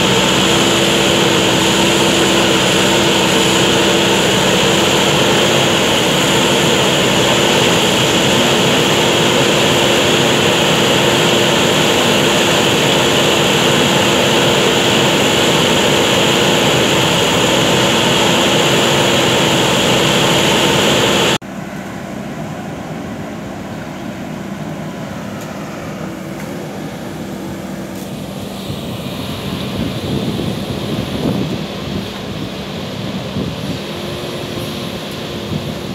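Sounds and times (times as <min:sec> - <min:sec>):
diesel engine running: 0:00.0 - 0:35.9
distant engine drone: 0:00.0 - 0:35.9.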